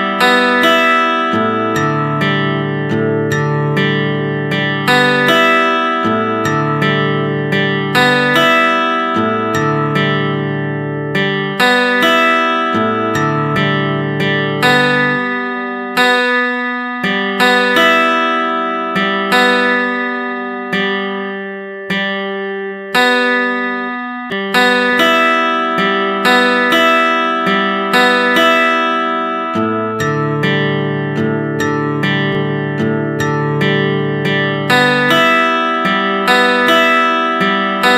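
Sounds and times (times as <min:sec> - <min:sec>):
acoustic guitar plucked chords: 0:00.0 - 0:37.9.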